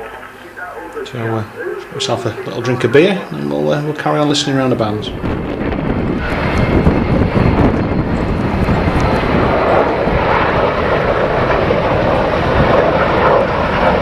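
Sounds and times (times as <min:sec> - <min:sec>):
aircraft engines flying past: 0:00.0 - 0:14.0.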